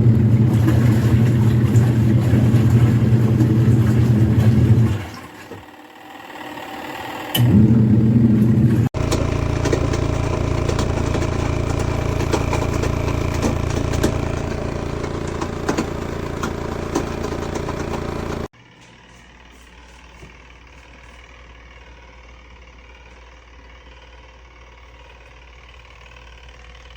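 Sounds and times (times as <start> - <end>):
washing machine motor hum: 0.0 - 26.9.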